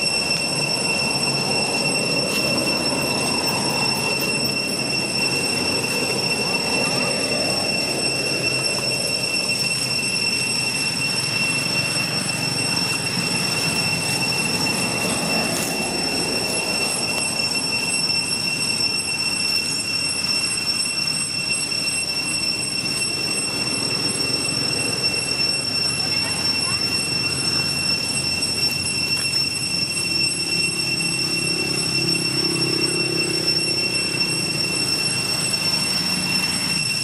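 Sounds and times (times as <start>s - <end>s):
steady high-pitched whine: 0.0s - 37.0s.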